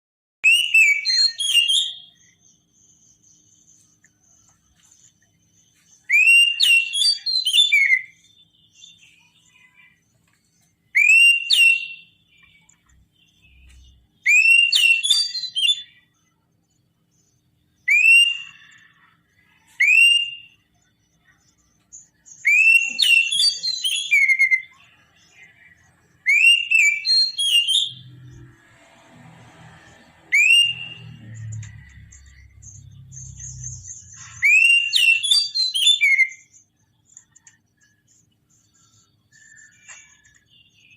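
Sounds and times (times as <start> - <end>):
magpie-robin whistled song: 0.4 - 28.6, 29.6 - 40.9.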